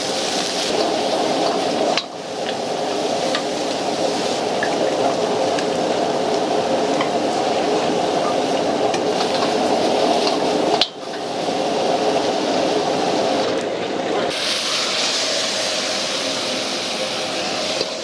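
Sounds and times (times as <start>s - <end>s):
food frying and sizzling: 0.0s - 13.6s, 14.3s - 18.0s.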